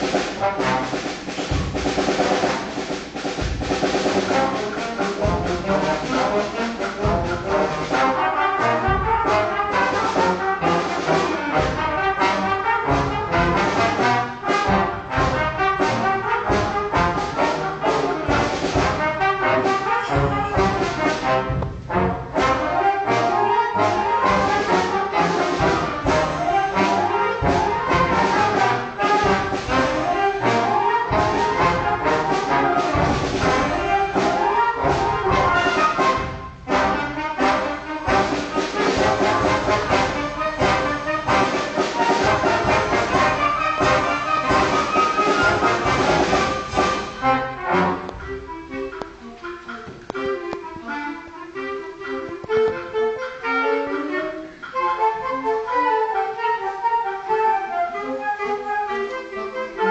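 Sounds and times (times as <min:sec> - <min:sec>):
drum hits: 0:00.0 - 0:23.1, 0:24.2 - 0:49.2
concert band playing: 0:00.0 - 0:59.9.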